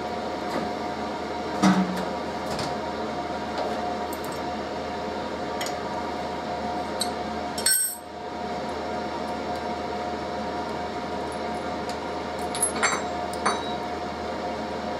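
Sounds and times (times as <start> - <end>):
workshop heater humming: 0.0 - 14.9.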